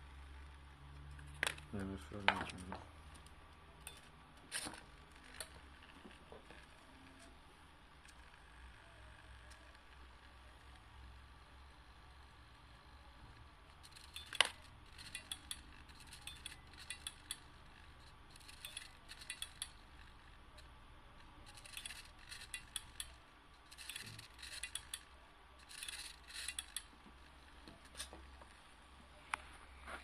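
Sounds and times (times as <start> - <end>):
servo gears ticking and chattering: 0.1 - 28.4.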